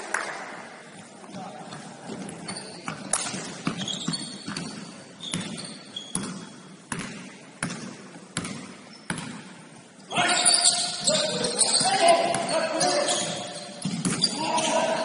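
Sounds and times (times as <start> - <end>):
sneakers squeaking on floor: 1.3 - 15.0.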